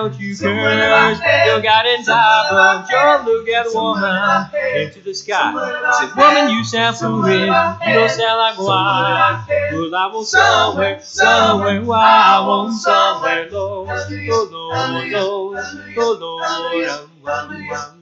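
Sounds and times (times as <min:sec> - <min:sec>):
male vocal quartet singing: 0:00.0 - 0:18.0.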